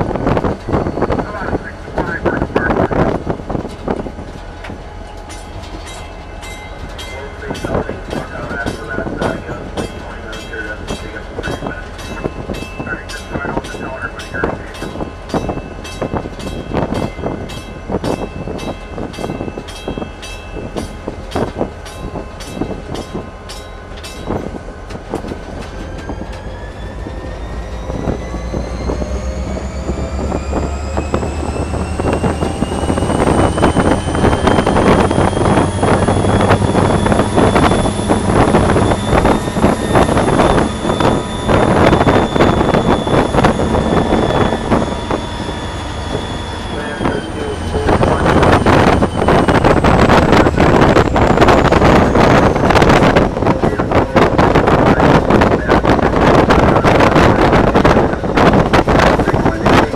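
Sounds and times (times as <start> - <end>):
locomotive diesel engine: 0.0 - 59.9
rising whine: 0.0 - 59.9.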